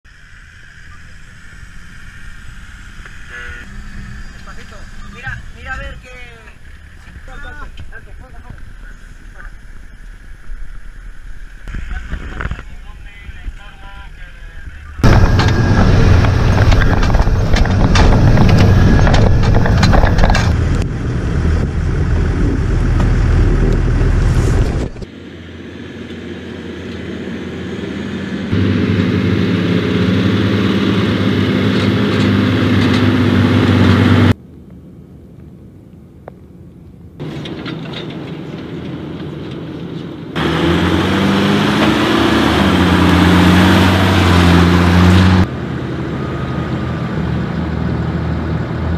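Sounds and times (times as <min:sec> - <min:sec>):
vehicle engine and road rumble: 0:00.0 - 0:48.9
diesel engines running: 0:00.1 - 0:34.4, 0:37.0 - 0:48.9.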